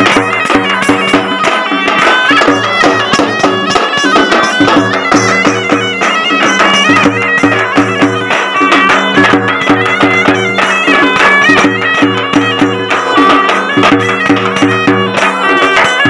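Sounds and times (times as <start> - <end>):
reedy wind instrument melody: 0.0 - 16.0
stick-beaten drum: 0.0 - 16.0.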